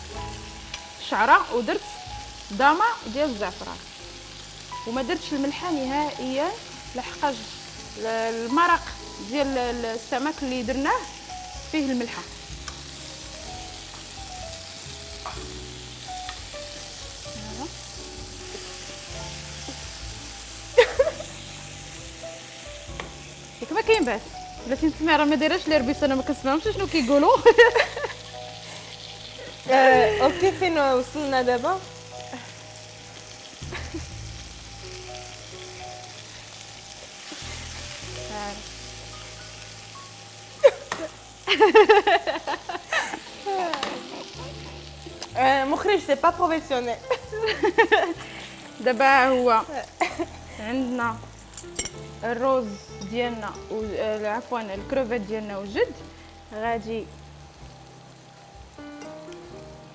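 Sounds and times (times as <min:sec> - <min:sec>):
faint background music: 0:00.0 - 0:59.9
food sizzling in a frying pan: 0:00.0 - 0:59.9.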